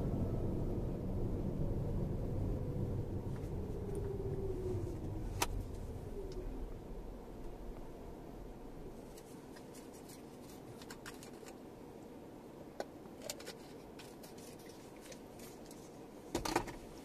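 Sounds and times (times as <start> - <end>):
low steady car cabin hum: 0.0 - 17.0.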